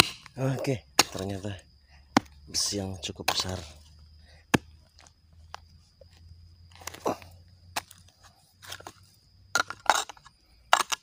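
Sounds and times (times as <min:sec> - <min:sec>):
hoe striking soil: 0:00.0 - 0:05.1, 0:06.7 - 0:11.0.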